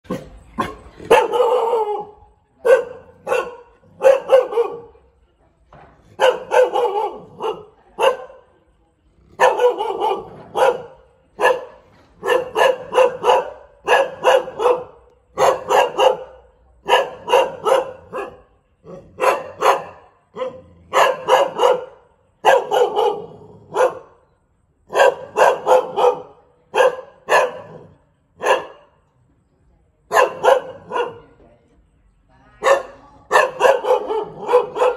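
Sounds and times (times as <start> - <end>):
dog barking: 0.1 - 5.1, 6.2 - 8.5, 9.4 - 24.2, 24.9 - 29.0, 30.1 - 31.4, 32.6 - 34.9.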